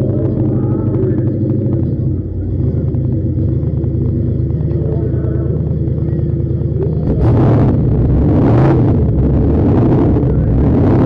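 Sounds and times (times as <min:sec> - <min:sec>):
drag car engine idling: 0:00.0 - 0:11.0.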